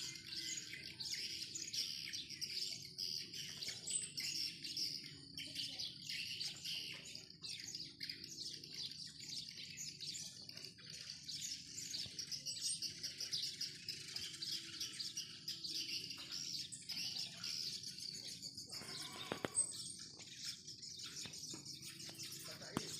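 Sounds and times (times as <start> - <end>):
birds twittering: 0.0 - 22.9.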